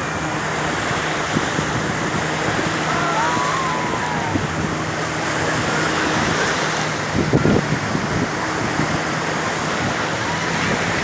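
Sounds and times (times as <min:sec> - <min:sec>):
sea waves: 0:00.0 - 0:11.0
wind: 0:00.0 - 0:11.0.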